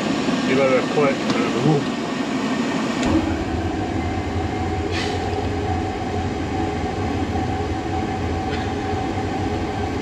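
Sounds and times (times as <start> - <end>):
boiler burner rumble: 0.0 - 10.0
thin steady hum: 0.0 - 10.0.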